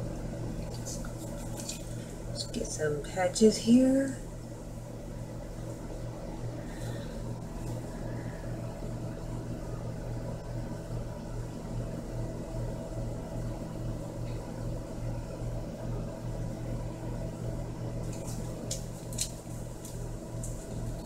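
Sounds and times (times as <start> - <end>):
low pulsing hum: 0.0 - 21.0.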